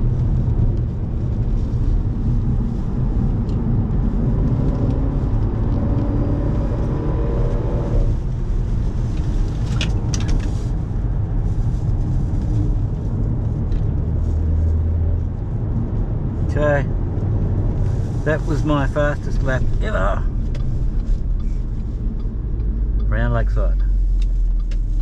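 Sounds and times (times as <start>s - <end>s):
car engine at full throttle: 0.0s - 25.0s
heavy road rumble: 0.0s - 25.0s.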